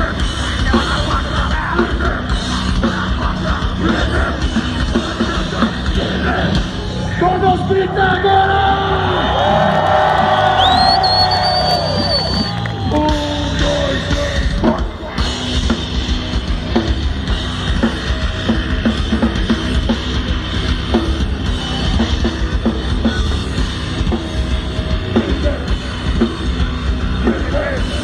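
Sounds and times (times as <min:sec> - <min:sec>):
heavy metal band playing: 0:00.0 - 0:28.0.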